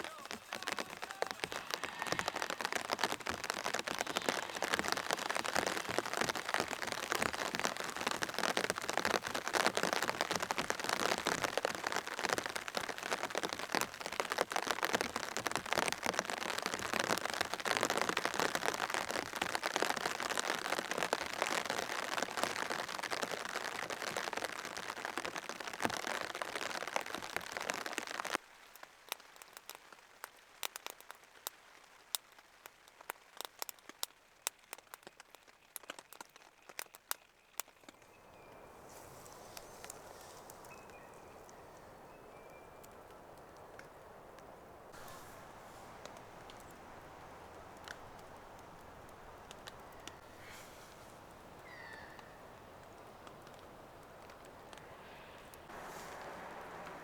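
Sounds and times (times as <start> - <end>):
scattered drips: 0.0 - 28.4, 33.4 - 57.0
steady rain: 0.0 - 57.0.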